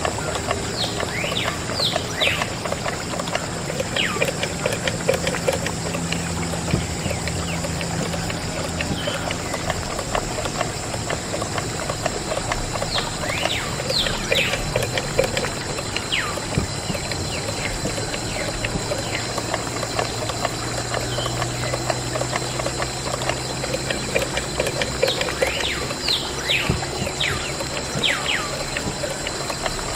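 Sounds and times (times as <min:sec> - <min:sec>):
low hum: 0:00.0 - 0:29.9
water pouring and splashing: 0:00.0 - 0:29.9.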